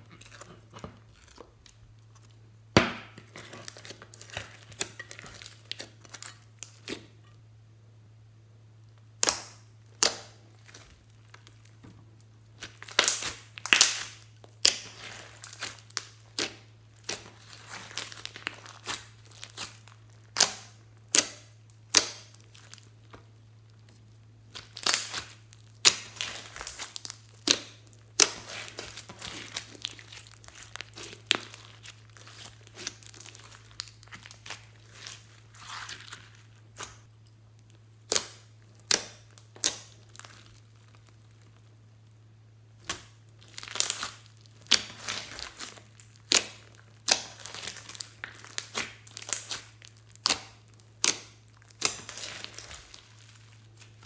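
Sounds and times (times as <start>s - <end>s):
hands squeezing slime: 9.2s - 41.8s, 42.8s - 54.0s.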